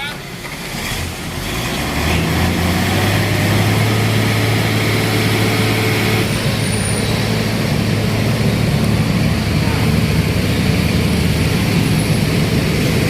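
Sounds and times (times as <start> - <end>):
heavy vehicle engine humming: 0.0 - 13.0.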